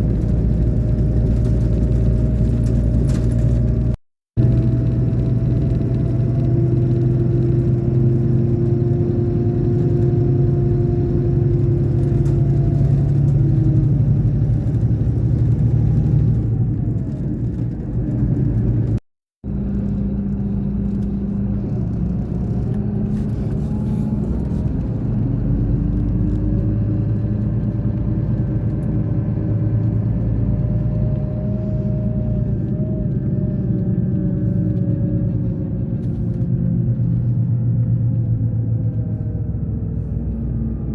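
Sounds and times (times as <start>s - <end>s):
coach engine droning: 0.0s - 40.9s.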